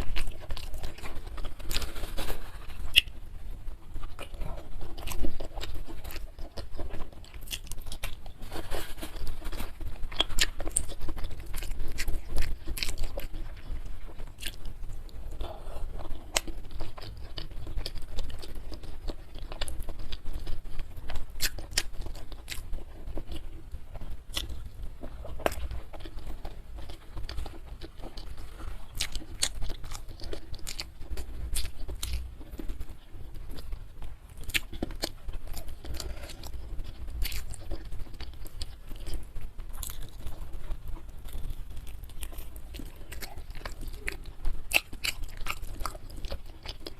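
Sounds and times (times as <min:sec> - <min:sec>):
person chewing with crunches: 0:00.0 - 0:46.9.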